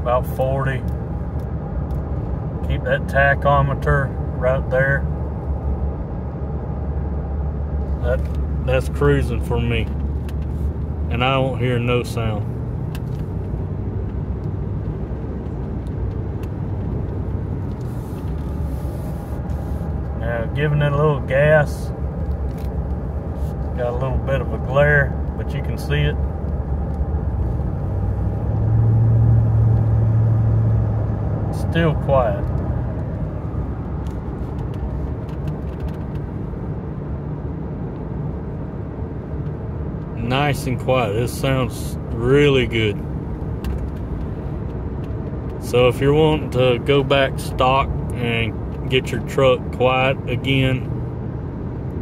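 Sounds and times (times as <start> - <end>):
faint exhaust: 0.0 - 52.0
road noise in vehicle cab: 0.0 - 52.0.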